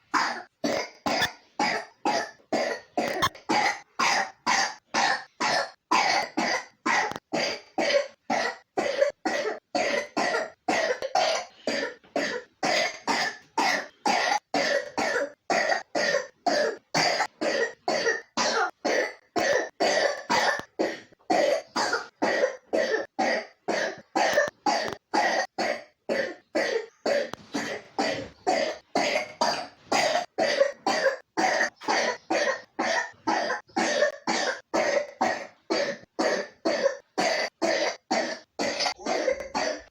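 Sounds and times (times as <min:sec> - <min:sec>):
child coughing rapidly: 0:00.1 - 0:39.9.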